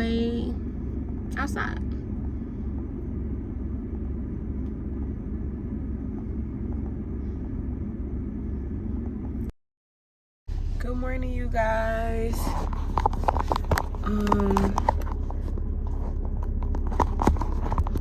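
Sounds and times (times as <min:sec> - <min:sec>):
car interior rumble: 0:00.0 - 0:09.5, 0:10.5 - 0:18.0.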